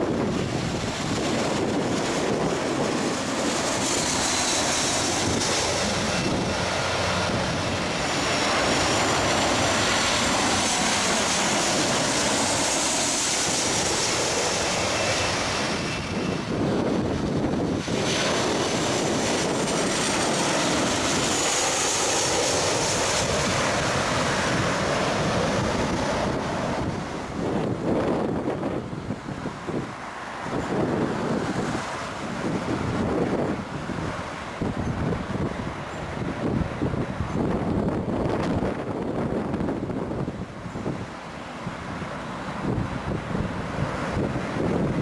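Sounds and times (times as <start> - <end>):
jet airliner engines rushing and whining: 0.0 - 45.0
wind buffeting microphone: 0.0 - 45.0.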